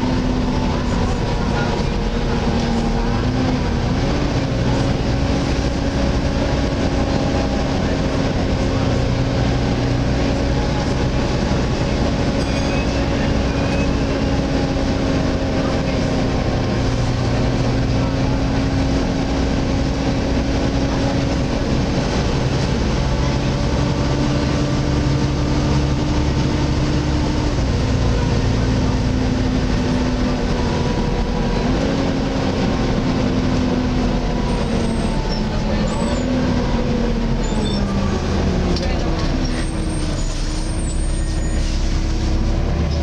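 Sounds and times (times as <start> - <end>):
bus engine and road noise: 0.0 - 43.0.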